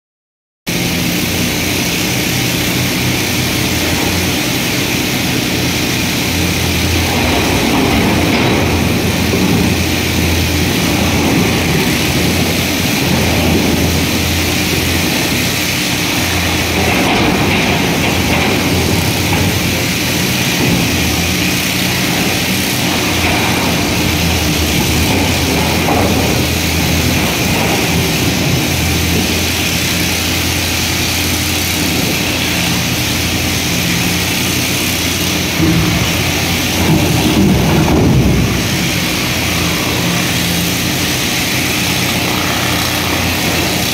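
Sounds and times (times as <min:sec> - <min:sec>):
excavator diesel engine drone: 0:00.7 - 0:43.9.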